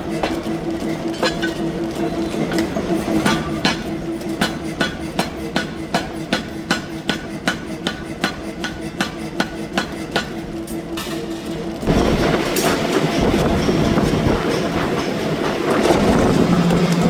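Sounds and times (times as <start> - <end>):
machine hum: 0.0 - 7.4, 10.3 - 17.0
power hammer striking steel: 0.0 - 17.0.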